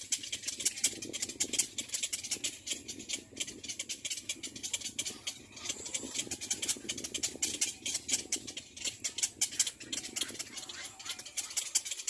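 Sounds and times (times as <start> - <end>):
nestlings begging calls: 2.2 - 12.0.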